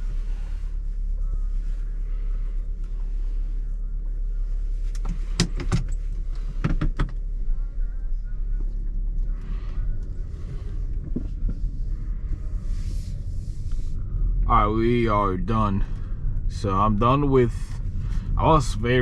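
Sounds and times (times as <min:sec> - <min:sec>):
car cabin low hum: 0:00.0 - 0:19.0.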